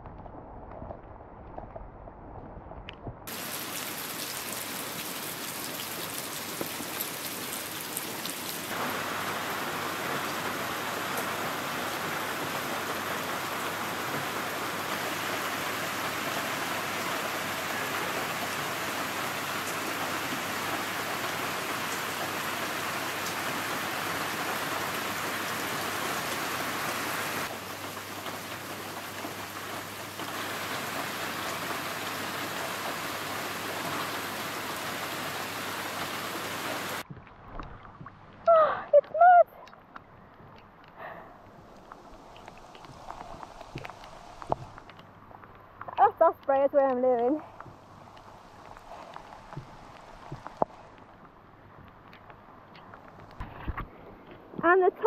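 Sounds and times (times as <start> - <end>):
heavy rain on water: 3.3 - 52.2.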